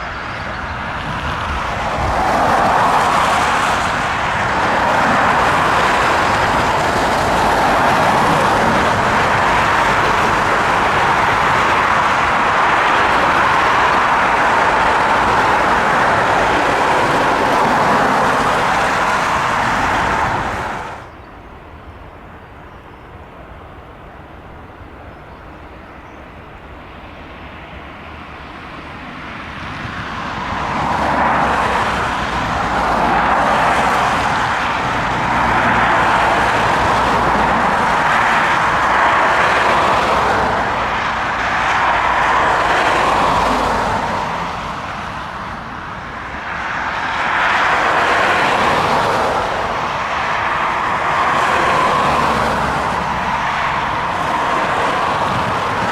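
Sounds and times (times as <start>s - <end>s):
jet engines roaring: 0.0s - 21.1s, 26.7s - 55.9s.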